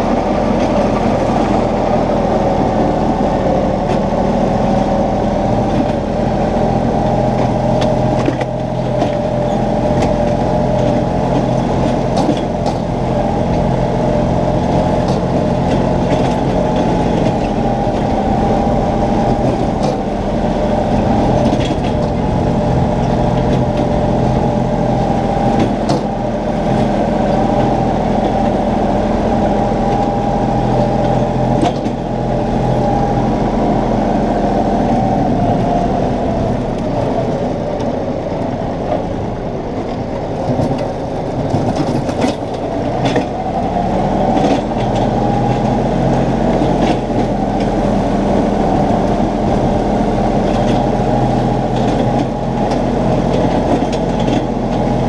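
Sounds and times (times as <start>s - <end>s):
tractor engine mowing: 0.0s - 55.0s.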